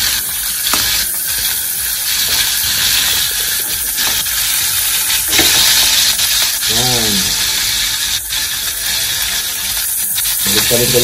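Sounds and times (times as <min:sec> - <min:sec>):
steak sizzling in a frying pan: 0:00.0 - 0:11.0.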